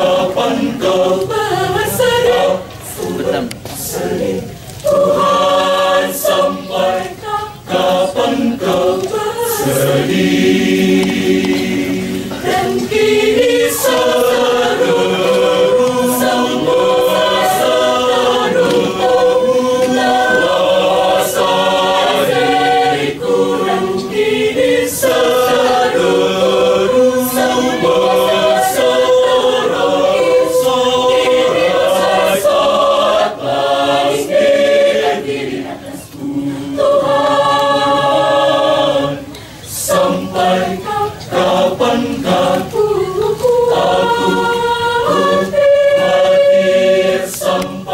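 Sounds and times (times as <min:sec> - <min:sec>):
choir singing a hymn: 0:00.0 - 0:47.9.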